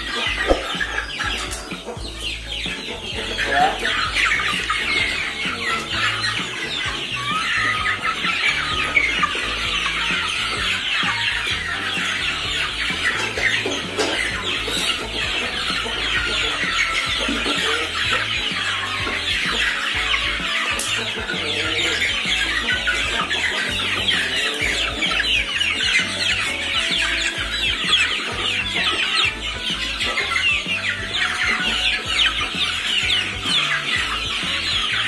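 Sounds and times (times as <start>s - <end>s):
background music with bass beat: 0.0s - 35.0s
chickens calling: 0.0s - 35.0s.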